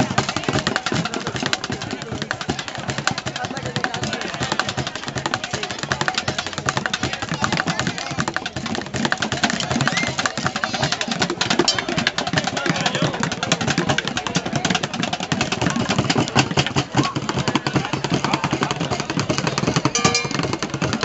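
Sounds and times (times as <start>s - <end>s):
drumming on plastic buckets: 0.0s - 21.0s.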